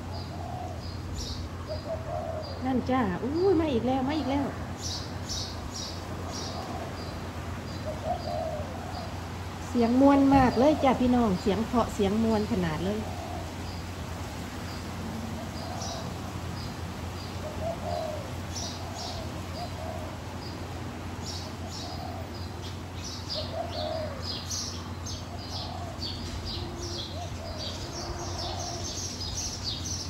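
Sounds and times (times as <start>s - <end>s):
doves cooing: 0.0s - 30.0s
small birds chirping: 0.0s - 30.0s.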